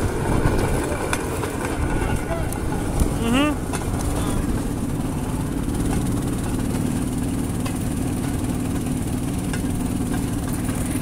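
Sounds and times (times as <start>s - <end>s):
small rail vehicle engine running: 0.0s - 11.0s.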